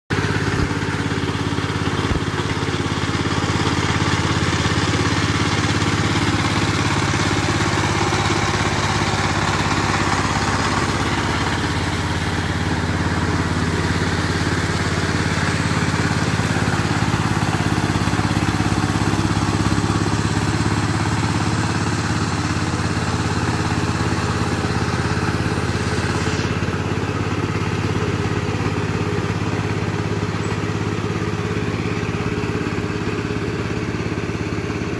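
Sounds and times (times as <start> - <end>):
diesel tiller engine running: 0.1 - 34.9.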